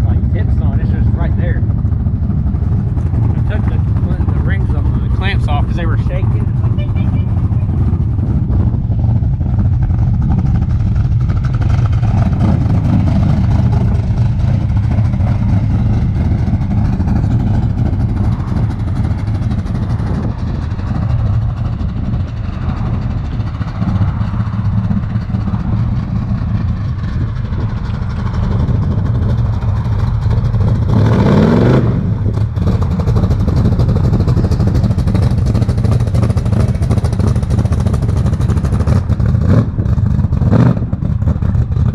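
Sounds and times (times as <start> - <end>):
truck engine running and revving: 0.0 - 41.9.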